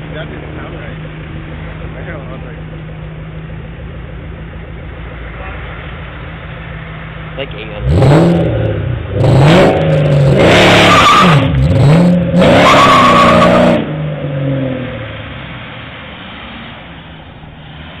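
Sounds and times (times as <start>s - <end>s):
muscle car engine revving: 0.0s - 16.0s.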